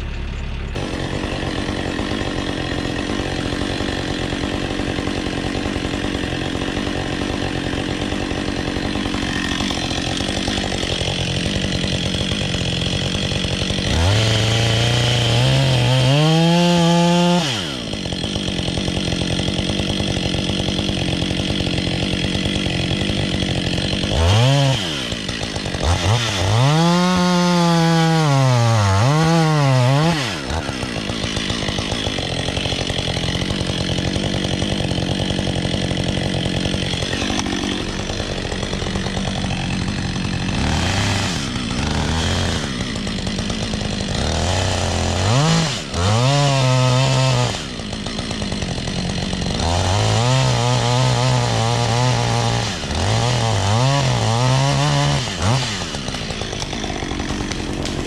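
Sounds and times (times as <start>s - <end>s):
chainsaw cutting wood: 0.0s - 58.0s
chainsaw idling and revving: 0.0s - 58.0s.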